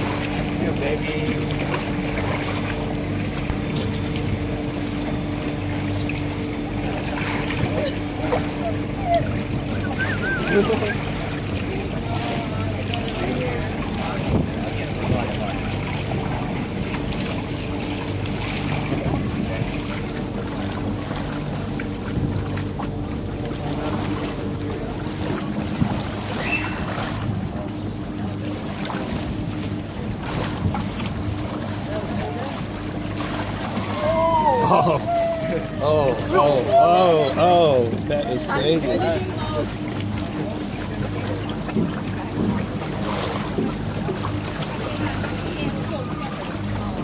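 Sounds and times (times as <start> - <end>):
motorboat engine humming: 0.0 - 47.0
water rushing: 0.0 - 47.0
wind: 0.0 - 47.0.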